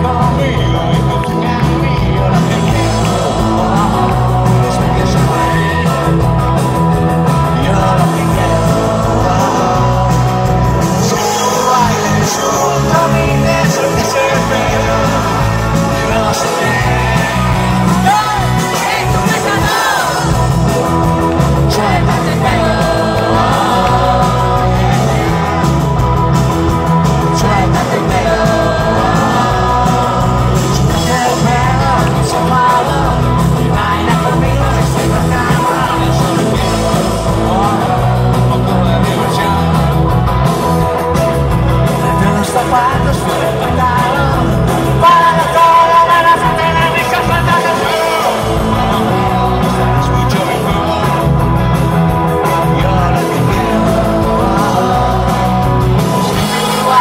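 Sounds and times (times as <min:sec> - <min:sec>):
bass guitar: 0:00.0 - 0:57.0
drums: 0:00.0 - 0:57.0
electric guitars: 0:00.0 - 0:57.0
keyboards: 0:00.0 - 0:57.0.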